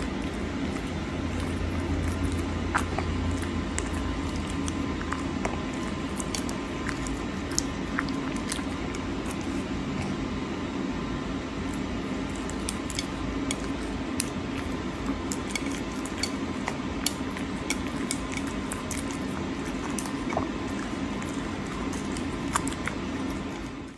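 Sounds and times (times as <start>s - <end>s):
animal chewing wetly: 0.0s - 10.2s, 11.6s - 23.9s.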